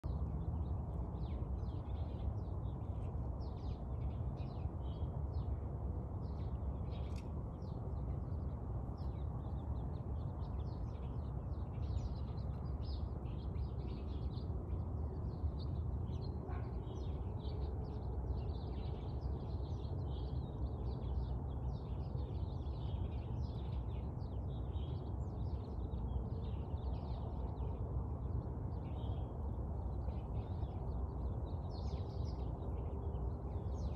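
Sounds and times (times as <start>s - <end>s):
small birds chirping: 0.0s - 33.9s
steady low rumble: 0.0s - 33.9s.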